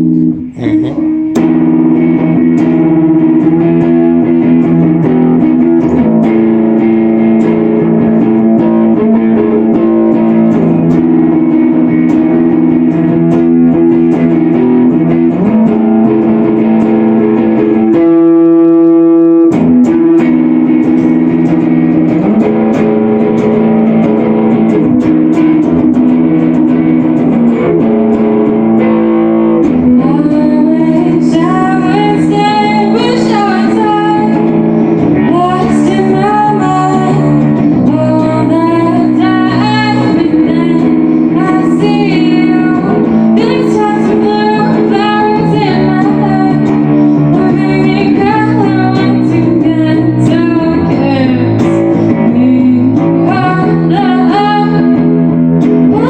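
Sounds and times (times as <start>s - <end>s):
guitar sustained chords: 0.0s - 56.0s
person singing: 0.0s - 56.0s
rock band playing: 0.0s - 56.0s.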